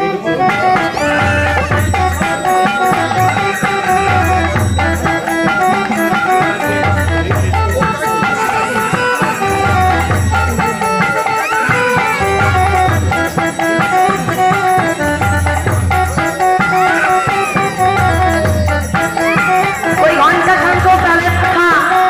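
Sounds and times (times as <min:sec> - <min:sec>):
jingling rattling percussion: 0:00.0 - 0:22.0
melody instrument holding notes: 0:00.0 - 0:22.0.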